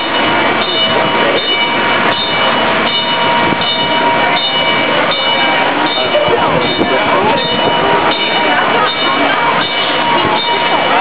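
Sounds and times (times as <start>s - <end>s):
loud noisy background: 0.0s - 11.0s.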